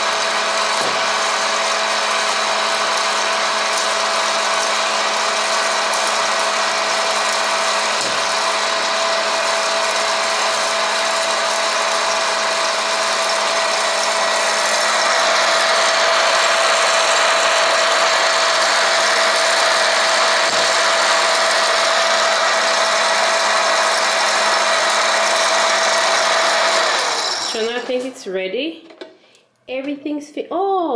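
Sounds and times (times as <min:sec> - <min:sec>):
popcorn maker fan whirring: 0:00.0 - 0:28.3.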